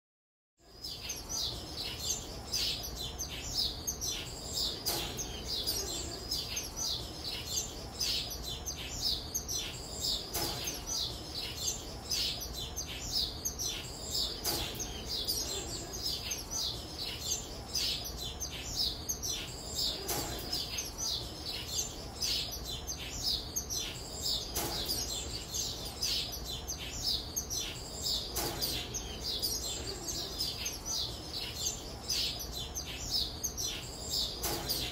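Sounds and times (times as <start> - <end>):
fledglings begging chirps: 0.6 - 34.9.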